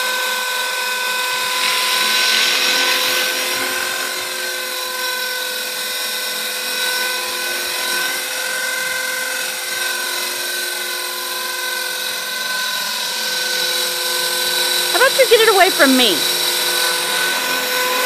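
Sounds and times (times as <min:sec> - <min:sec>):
rc helicopter motor whine: 0:00.0 - 0:14.9.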